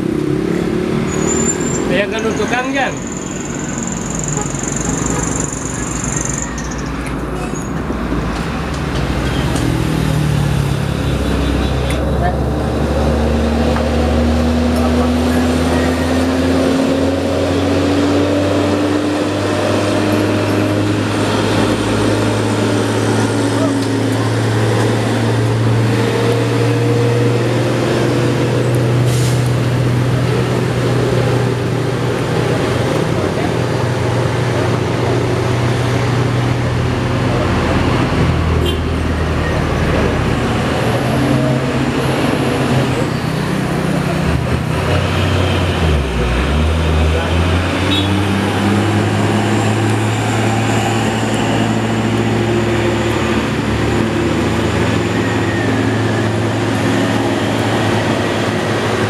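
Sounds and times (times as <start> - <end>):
passing traffic: 0.0 - 59.0
road noise: 0.0 - 59.0
truck diesel engine climbing: 0.0 - 59.0.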